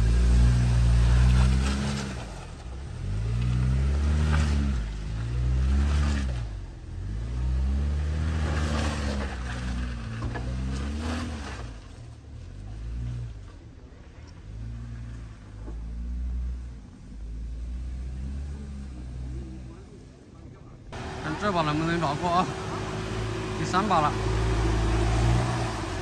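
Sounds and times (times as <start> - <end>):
car engine revving under load: 0.0 - 26.0.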